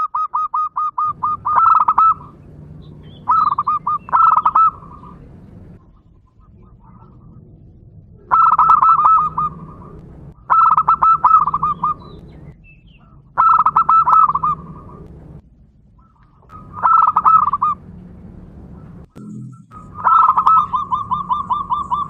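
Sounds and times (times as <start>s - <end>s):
dove cooing: 0.0s - 15.4s, 16.0s - 22.0s
faint low hum: 1.1s - 22.0s.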